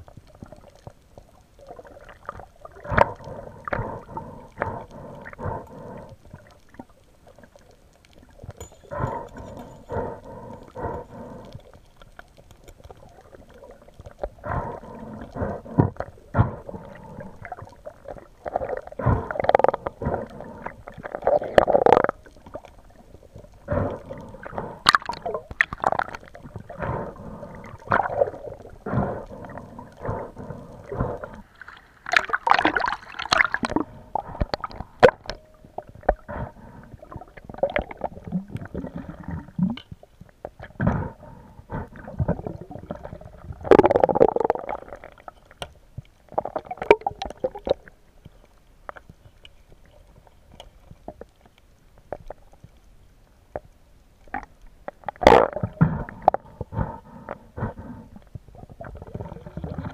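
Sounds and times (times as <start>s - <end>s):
underwater gurgling water: 0.0s - 59.9s.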